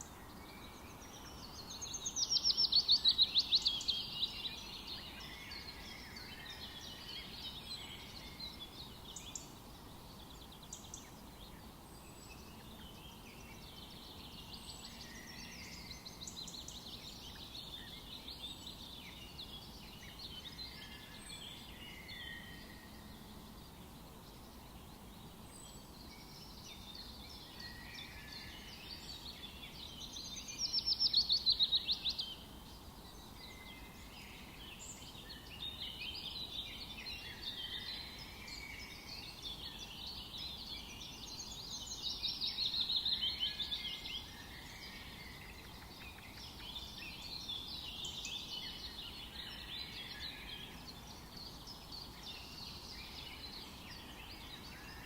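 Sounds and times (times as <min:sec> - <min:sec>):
faint steady hiss: 0:00.0 - 0:55.0
forest birds singing: 0:00.0 - 0:55.0.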